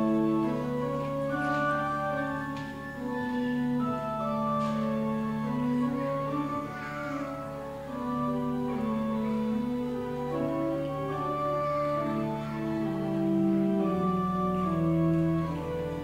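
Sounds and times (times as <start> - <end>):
church organ chords: 0.0 - 16.0.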